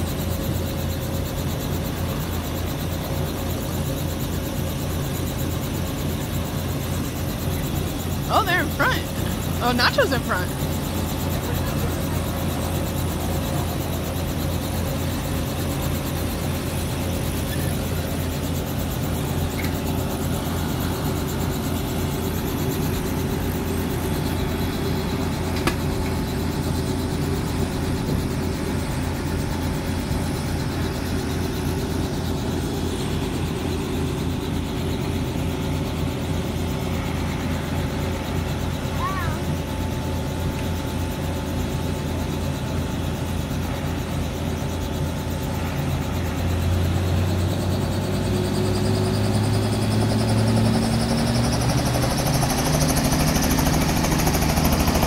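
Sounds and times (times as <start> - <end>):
helicopter engine and rotor idling: 0.0 - 55.0.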